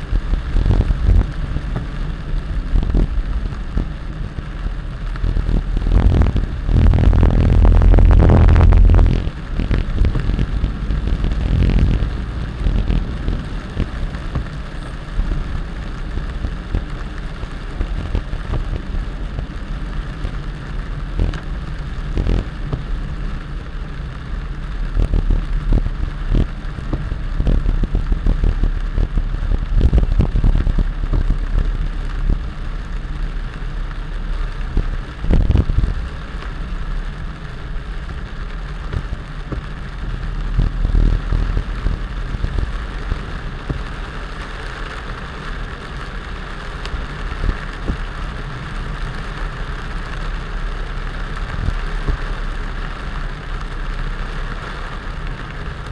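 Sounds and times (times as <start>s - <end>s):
heavy rain: 0.0s - 55.9s
vehicle engine rumble: 0.0s - 55.9s.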